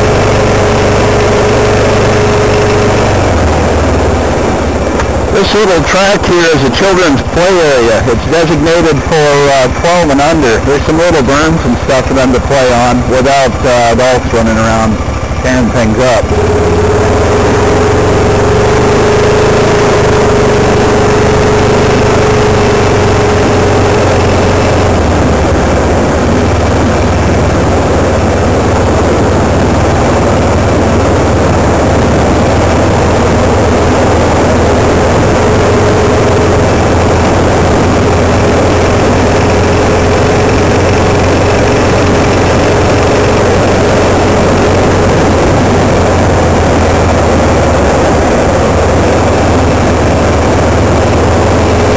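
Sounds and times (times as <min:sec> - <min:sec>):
road and wind noise: 0:00.0 - 0:51.9
steady whine: 0:00.0 - 0:51.9
vehicle engine running: 0:00.0 - 0:51.9.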